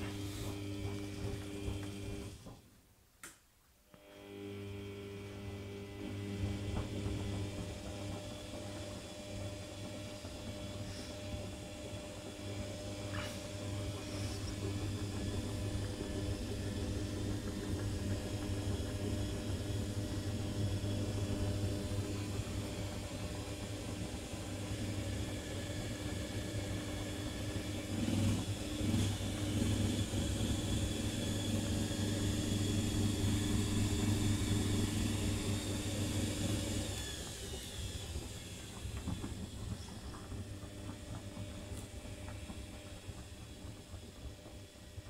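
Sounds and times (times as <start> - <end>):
washing machine motor hum: 0.0 - 2.8, 4.0 - 45.0.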